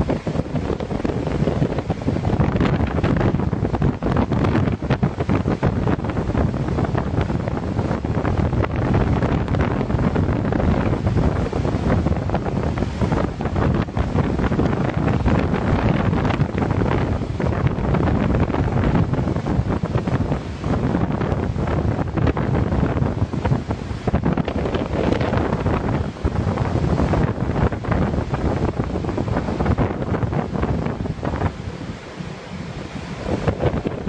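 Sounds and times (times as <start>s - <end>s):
rough seas breaking: 0.0s - 34.0s
wind buffeting microphone: 0.0s - 34.0s.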